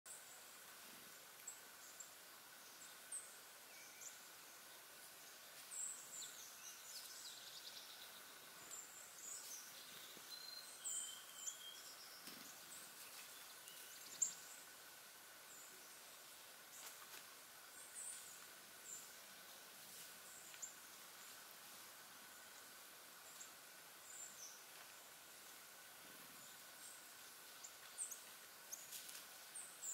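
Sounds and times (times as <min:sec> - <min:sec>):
faint steady high hum: 0:00.1 - 0:29.9
small birds chirping: 0:00.1 - 0:29.9.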